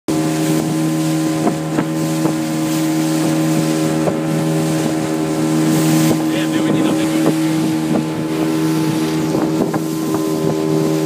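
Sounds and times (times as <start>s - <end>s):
boat motor running: 0.1s - 11.0s
wind on microphone: 0.2s - 11.0s
hull knocking against waves: 0.6s - 11.0s.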